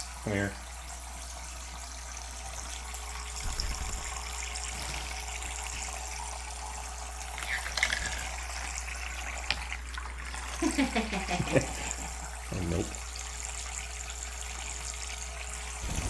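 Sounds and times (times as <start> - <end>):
water running from faucet: 0.0 - 16.0.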